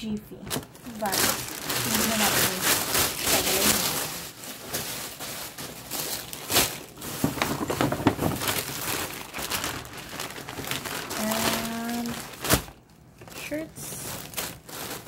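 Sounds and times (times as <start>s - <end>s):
shopping bags rustling and crinkling: 0.3s - 15.0s.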